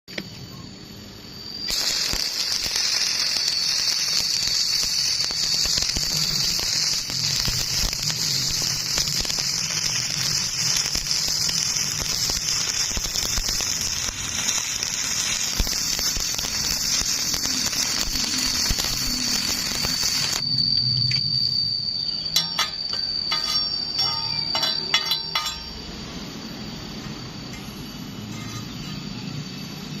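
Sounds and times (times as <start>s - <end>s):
thin high whine: 0.1s - 30.0s
welding arc crackling and sizzling: 0.1s - 30.0s.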